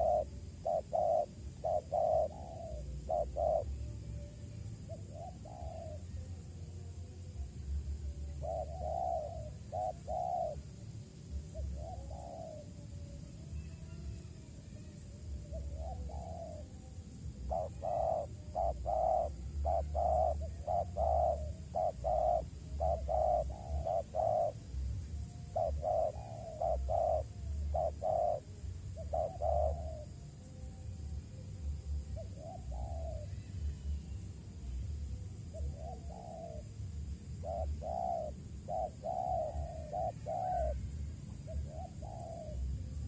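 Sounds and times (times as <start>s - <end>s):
dove cooing: 0.0s - 13.0s, 14.6s - 30.6s, 31.3s - 34.2s, 35.3s - 43.0s.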